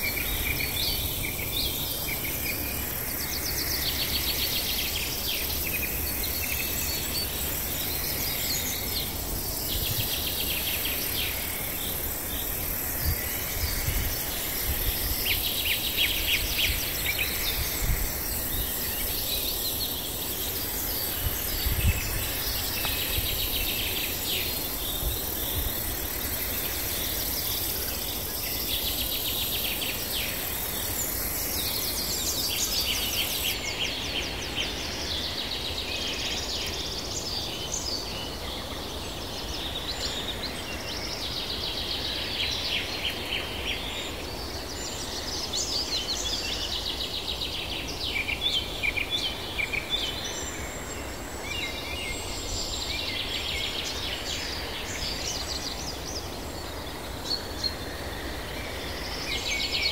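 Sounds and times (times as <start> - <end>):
high drone of insects: 0.0 - 59.9.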